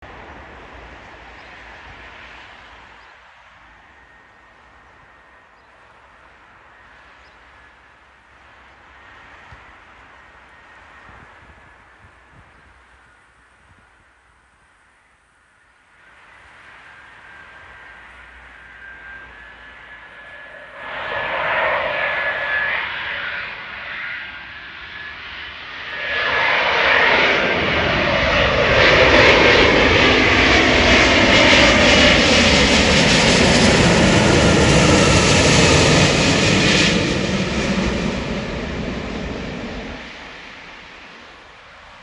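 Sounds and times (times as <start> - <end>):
jet airliner engines passing: 0.0 - 42.0.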